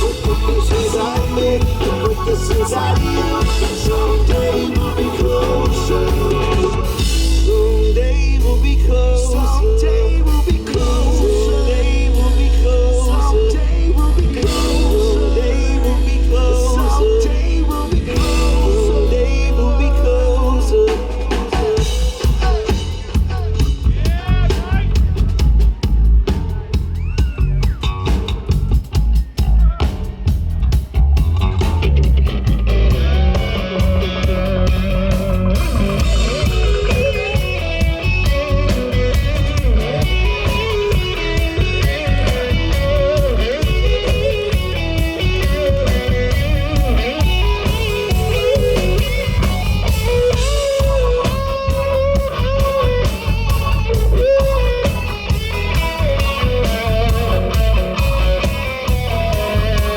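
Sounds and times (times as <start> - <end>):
bass and drums: 0.0 - 59.9
electric guitar lead line: 0.0 - 59.9.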